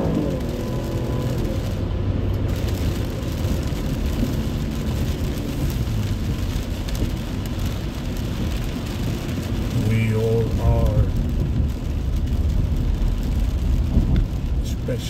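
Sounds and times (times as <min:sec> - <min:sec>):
low rumble of road traffic: 0:00.0 - 0:15.0
steady rain falling: 0:00.0 - 0:15.0.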